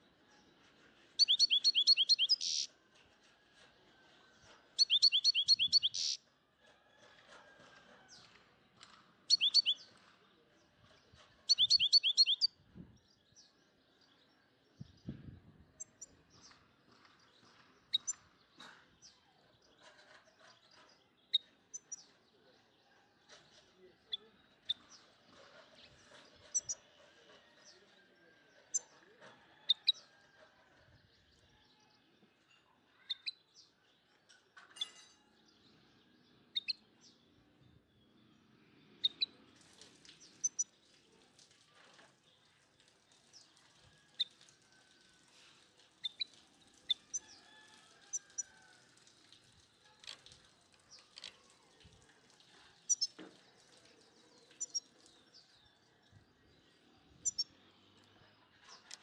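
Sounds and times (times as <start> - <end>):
small birds chirping: 0.0 - 2.7, 4.8 - 6.3, 8.1 - 30.2, 32.2 - 44.5, 46.0 - 59.0.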